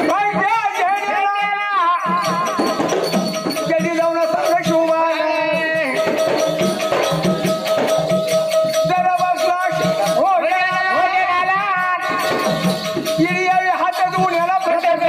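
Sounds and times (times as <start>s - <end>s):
rattling percussion: 0.0s - 15.0s.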